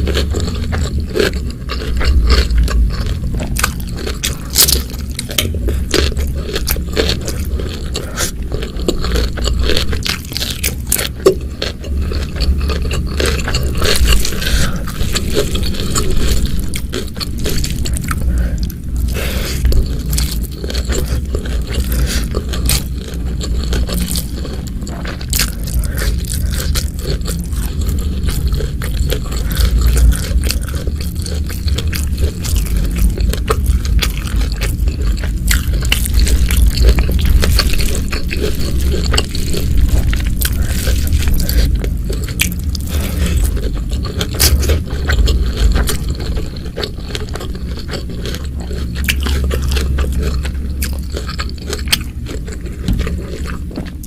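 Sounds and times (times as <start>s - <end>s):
chewing and crunching: 0.0s - 54.0s
low rumble: 0.0s - 54.0s.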